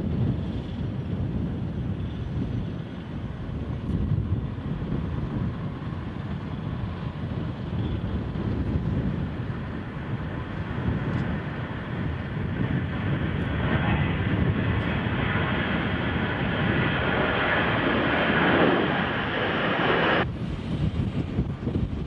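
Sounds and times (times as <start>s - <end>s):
jet airliner engines passing: 0.0s - 22.0s
wind rumbling on microphone: 0.0s - 22.0s.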